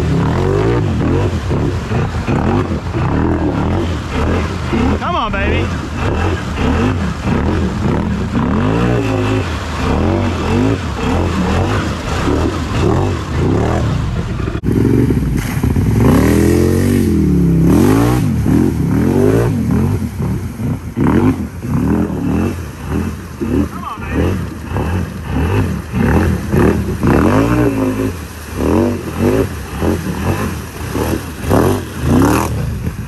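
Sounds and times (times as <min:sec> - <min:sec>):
atv engine revving: 0:00.0 - 0:33.0.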